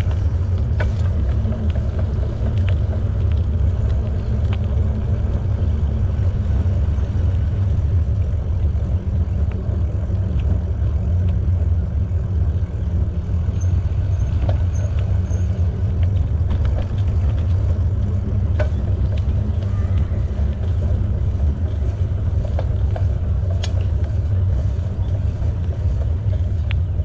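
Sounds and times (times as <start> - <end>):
bicycle tyres rolling: 0.0 - 27.0.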